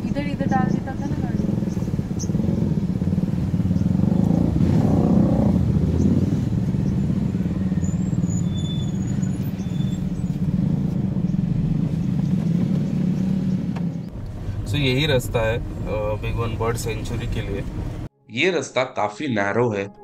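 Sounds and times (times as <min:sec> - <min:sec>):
car engine and road rumble: 0:00.0 - 0:18.1.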